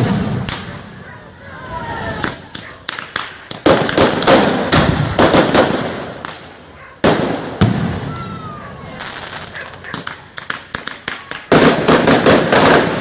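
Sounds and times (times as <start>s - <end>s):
firecracker bangs and crackling: 0.0s - 1.0s, 2.1s - 13.0s.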